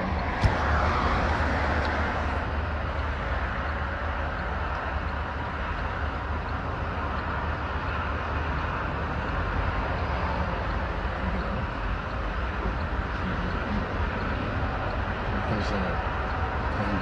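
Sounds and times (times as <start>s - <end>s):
vehicle rumble and hiss: 0.0s - 17.0s.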